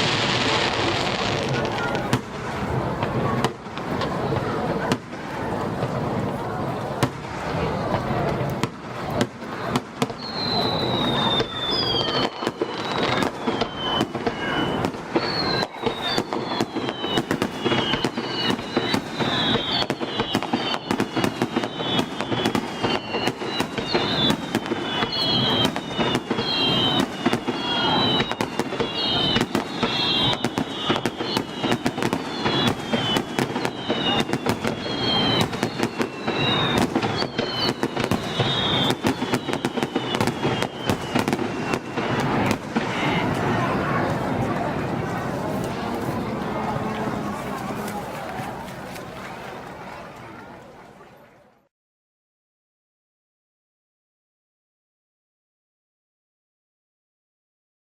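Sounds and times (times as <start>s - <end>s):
falling fireworks whistles: 0.0s - 46.9s
fireworks bangs and crackling: 0.0s - 49.9s.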